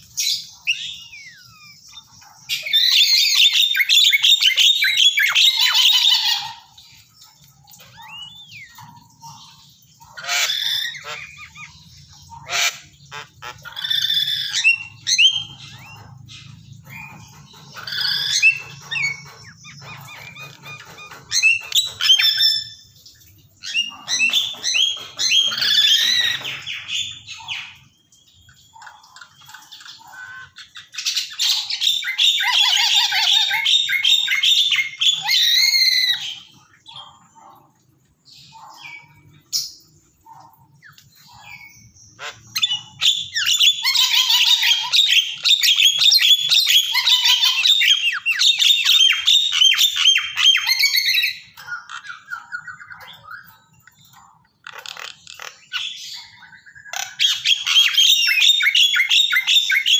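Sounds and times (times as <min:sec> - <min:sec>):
birds squawking and whistling: 0:00.0 - 0:59.9.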